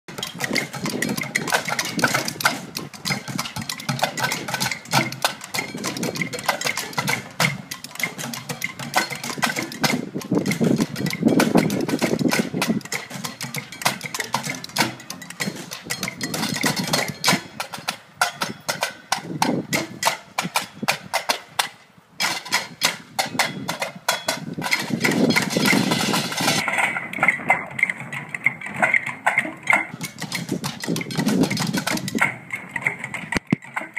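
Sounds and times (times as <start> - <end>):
sticks beating buckets and tubs: 0.0 - 33.9.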